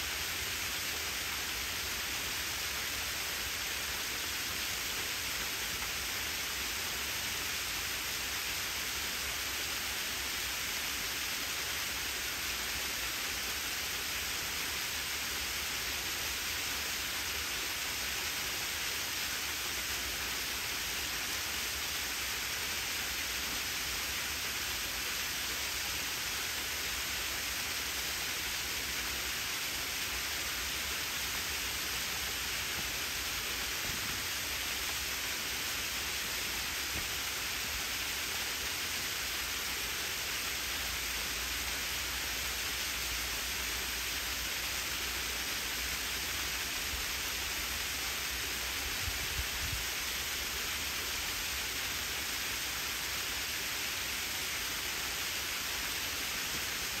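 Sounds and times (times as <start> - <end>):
waterfall splashing on rock: 0.1 - 57.0.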